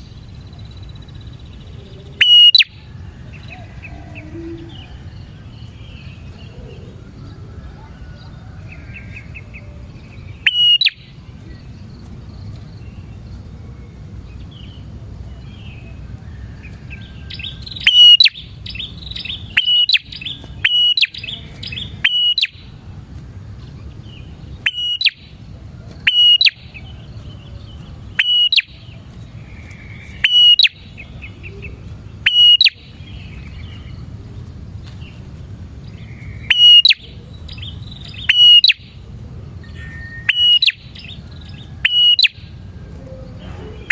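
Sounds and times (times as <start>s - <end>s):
faint low rumble: 0.0s - 38.3s, 42.4s - 43.9s.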